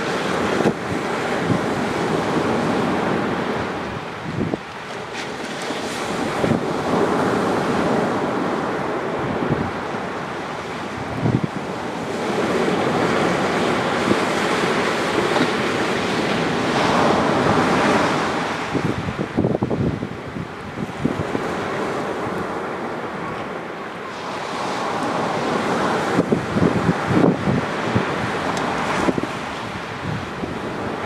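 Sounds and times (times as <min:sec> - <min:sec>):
waves breaking on beach: 0:00.0 - 0:31.0
wind buffeting microphone: 0:00.0 - 0:31.0.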